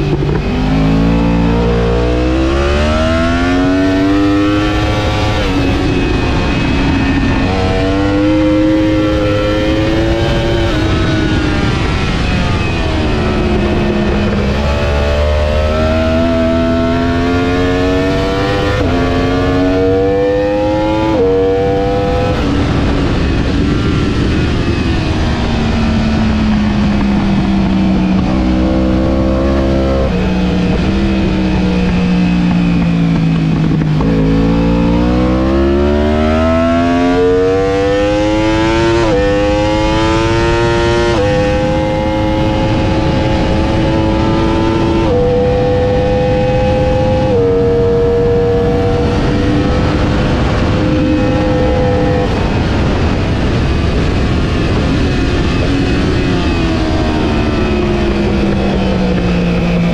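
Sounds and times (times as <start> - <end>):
motorcycle engine accelerating: 0.0 - 59.9
rushing wind: 0.0 - 59.9.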